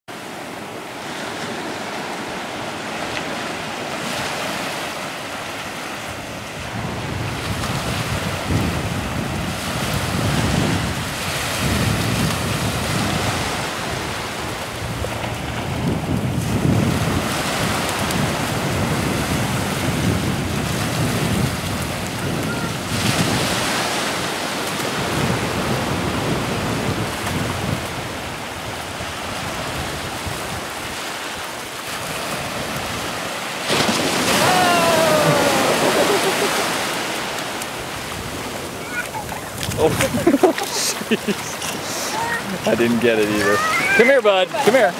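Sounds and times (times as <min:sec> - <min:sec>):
surf washing on shoreline: 0:00.1 - 0:44.9
wind buffeting microphone: 0:05.4 - 0:44.9.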